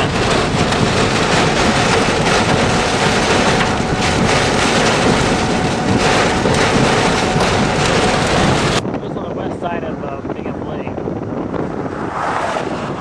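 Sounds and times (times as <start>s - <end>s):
storm wind and rain rushing: 0.0s - 13.0s
wind buffeting the microphone: 0.0s - 13.0s.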